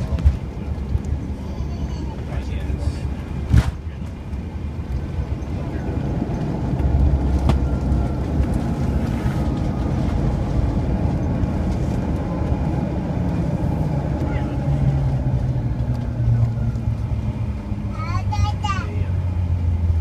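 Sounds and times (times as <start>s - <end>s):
jet cabin low rumble: 0.0s - 20.0s.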